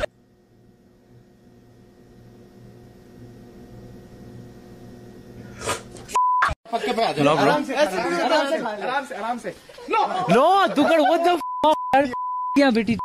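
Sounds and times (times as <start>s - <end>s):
appliance electrical hum: 0.0s - 11.5s.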